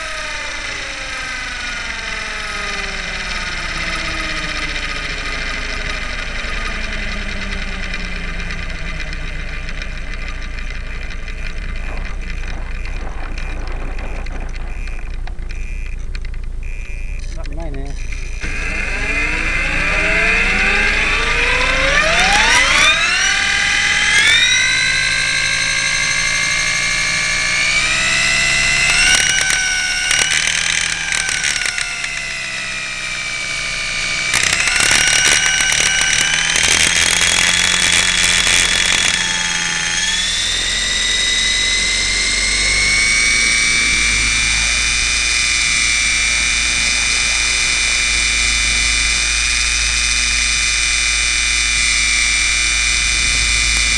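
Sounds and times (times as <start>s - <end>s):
crackly clicking: 0.0s - 18.6s, 19.4s - 53.9s
model helicopter motor whine: 0.0s - 53.9s.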